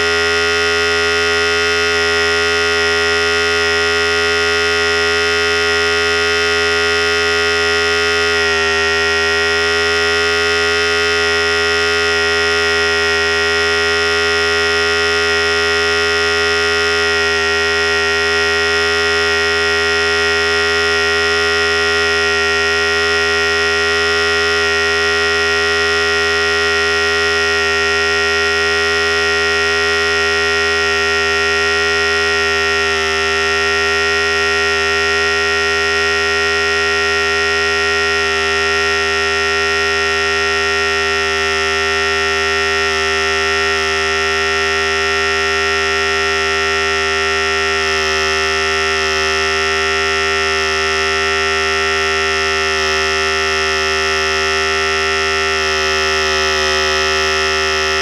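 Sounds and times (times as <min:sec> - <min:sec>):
electric hair clipper buzzing: 0:00.0 - 0:58.0.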